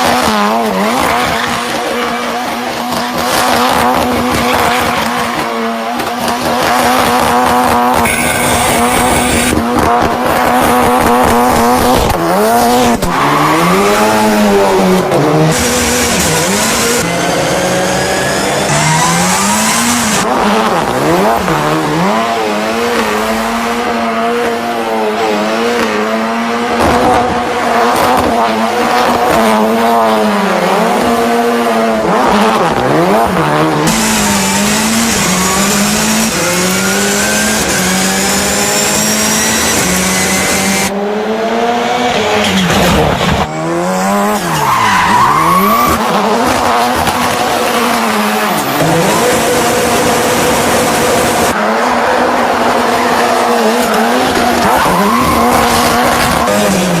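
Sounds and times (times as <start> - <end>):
car engines revving high: 0.0 - 57.0.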